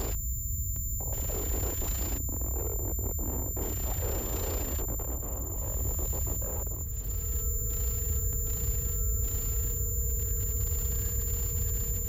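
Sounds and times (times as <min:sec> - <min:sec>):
high whine: 0:00.0 - 0:12.0.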